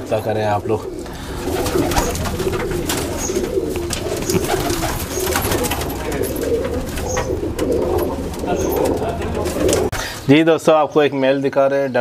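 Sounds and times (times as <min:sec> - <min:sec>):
pigeons cooing: 0:00.0 - 0:10.4.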